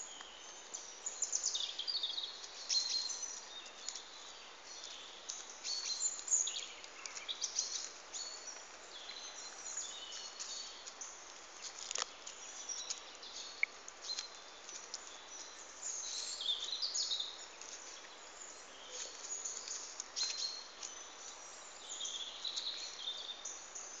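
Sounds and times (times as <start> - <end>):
outdoor background noise: 0.0 - 24.0
small birds chirping: 0.0 - 24.0.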